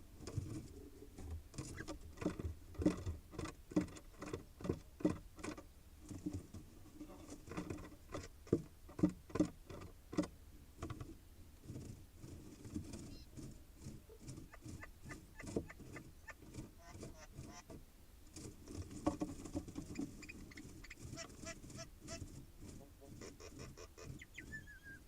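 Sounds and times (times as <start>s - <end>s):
birds scratching inside nest box: 0.2s - 24.9s.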